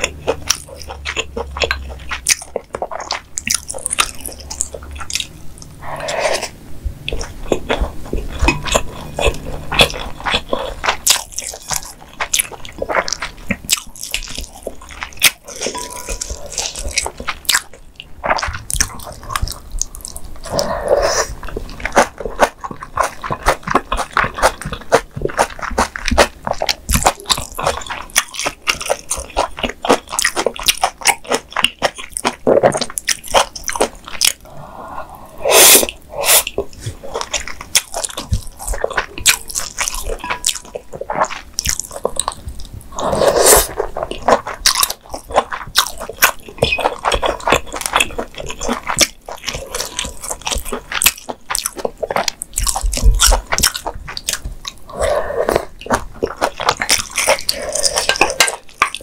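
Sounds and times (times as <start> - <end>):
close chewing with mouth smacks: 0.0 - 34.6, 35.5 - 59.0.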